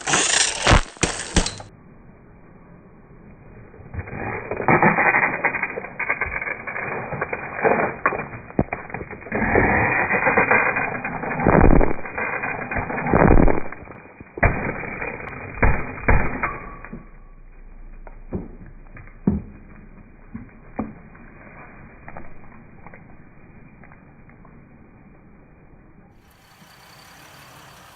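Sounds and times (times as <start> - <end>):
tire crushing brittle objects: 0.0 - 1.7, 3.8 - 24.9.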